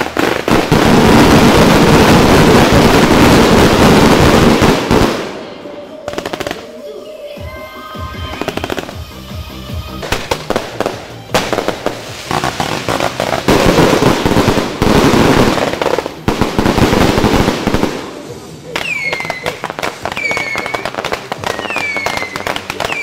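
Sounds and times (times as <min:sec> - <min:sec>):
firecrackers and fireworks crackling: 0:00.0 - 0:23.0.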